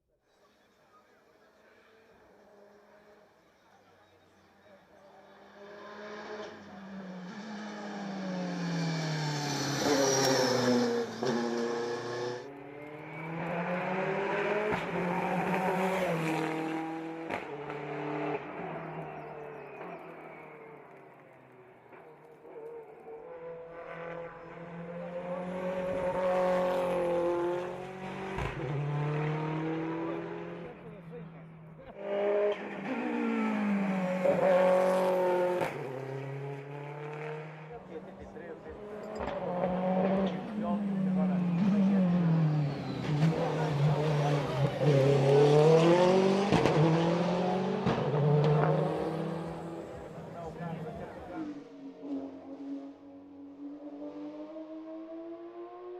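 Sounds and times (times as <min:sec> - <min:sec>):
race car engine accelerating: 0:05.4 - 0:22.2, 0:23.3 - 0:55.9.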